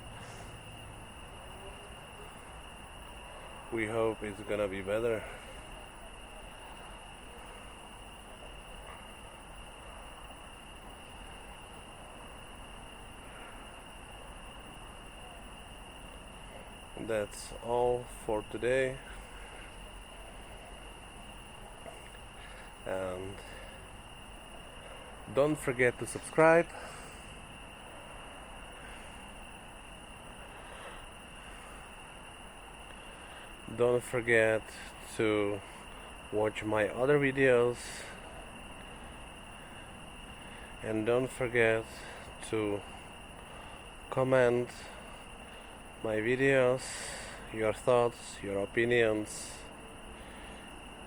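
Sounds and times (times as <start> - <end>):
constant high-pitched tone: 0.0 - 51.0
constant high-pitched whine: 0.0 - 51.0
night-time outdoor background noise: 0.0 - 51.0.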